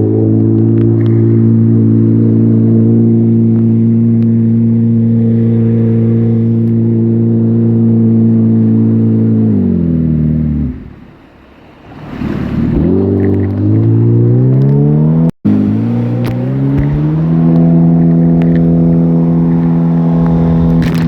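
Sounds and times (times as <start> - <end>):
watercraft engine running: 0.0 - 14.9, 15.5 - 21.0.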